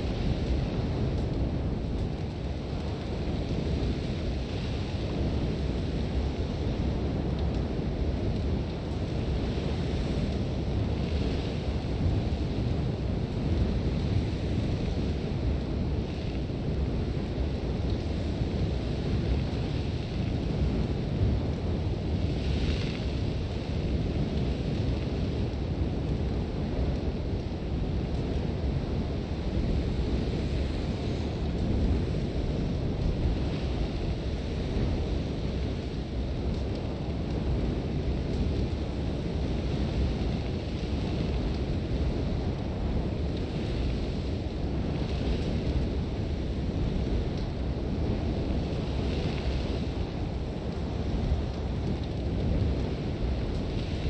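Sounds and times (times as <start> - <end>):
strong wind gusts: 0.0 - 54.0.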